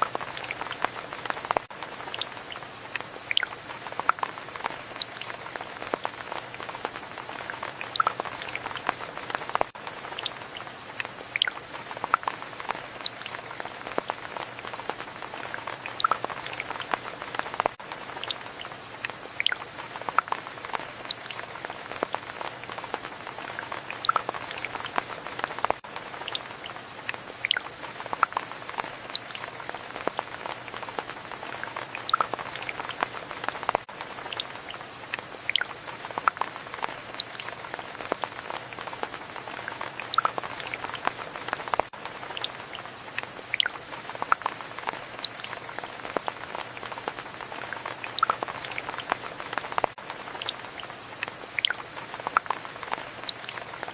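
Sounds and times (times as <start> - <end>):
raindrops ticking close by: 0.0 - 53.9
steady rain hiss: 0.0 - 53.9.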